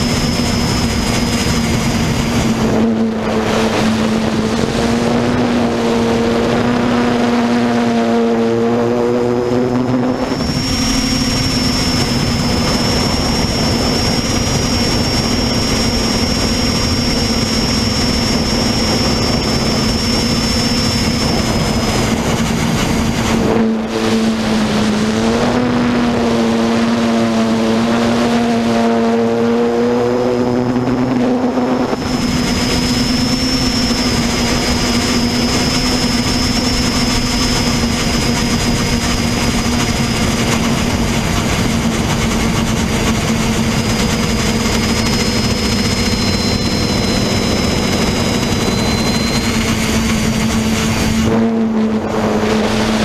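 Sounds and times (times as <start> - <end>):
drone propellers buzzing: 0.0 - 53.0
thin high whine: 0.0 - 53.0.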